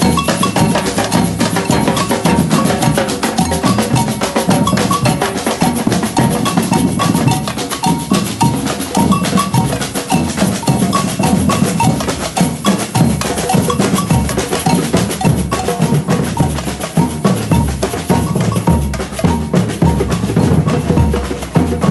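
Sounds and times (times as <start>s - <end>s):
bell-like percussion: 0.0s - 21.9s
snare and higher-pitched drums: 0.0s - 21.9s
surdo bass drums: 0.0s - 21.9s.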